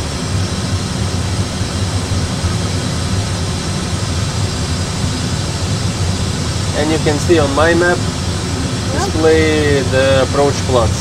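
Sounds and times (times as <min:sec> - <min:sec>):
cockpit low hum: 0:00.0 - 0:11.0.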